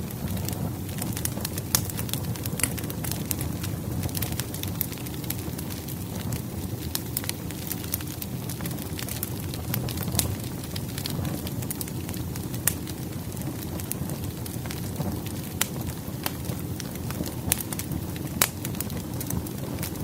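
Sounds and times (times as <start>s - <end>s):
fire crackling and popping: 0.0s - 20.0s
flames rumbling: 0.0s - 20.0s
wood snapping in fire: 0.0s - 20.0s.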